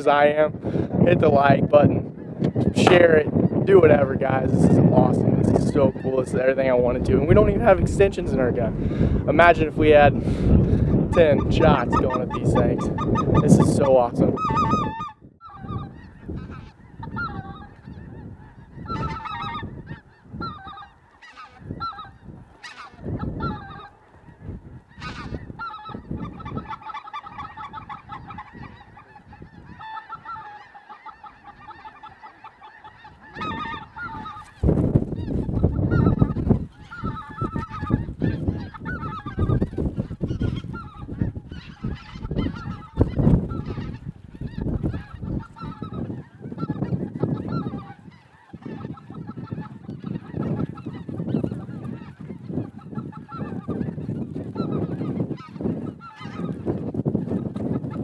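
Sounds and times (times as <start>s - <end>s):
geese honking and yelping: 0.0s - 58.0s.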